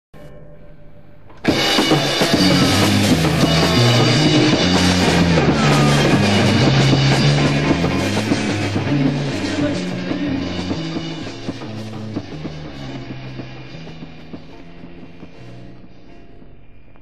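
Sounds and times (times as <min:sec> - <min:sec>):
rock band with drums and guitar: 0:01.3 - 0:16.5.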